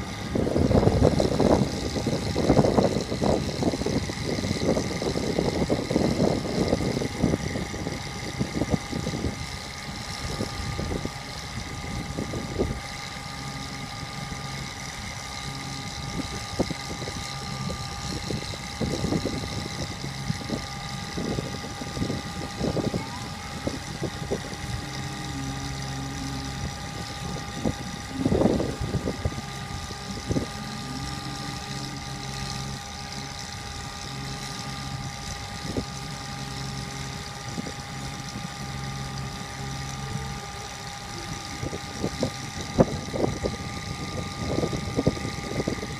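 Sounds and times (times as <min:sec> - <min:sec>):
truck engine idling: 0:00.0 - 0:43.3
high whine: 0:00.0 - 0:45.9.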